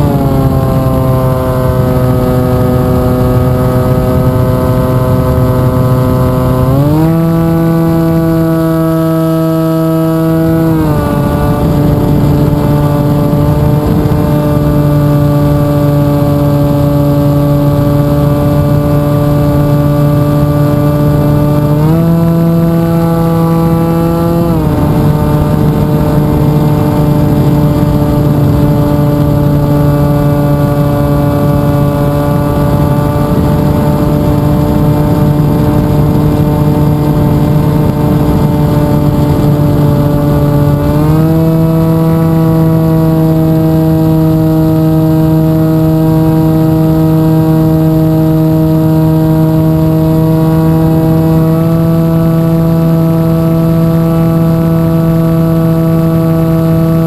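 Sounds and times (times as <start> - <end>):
model aircraft motor and propeller: 0.0 - 57.0.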